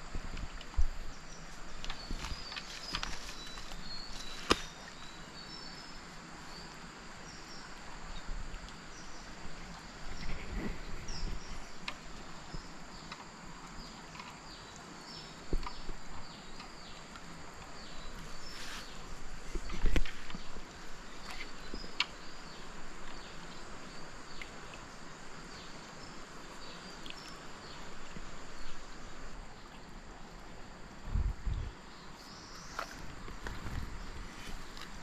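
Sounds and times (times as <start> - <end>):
river flowing: 0.0 - 31.1, 31.7 - 35.0.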